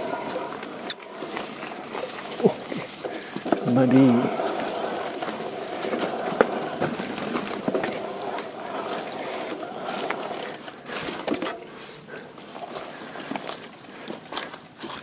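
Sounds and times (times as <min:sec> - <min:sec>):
bike tyres rolling on rough ground: 0:00.0 - 0:15.0.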